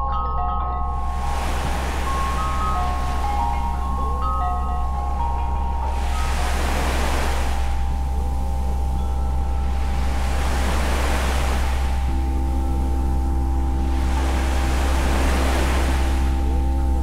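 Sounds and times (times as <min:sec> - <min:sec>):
deep steady drone hum: 0:00.0 - 0:17.0
hiss swells like surf: 0:01.0 - 0:17.0.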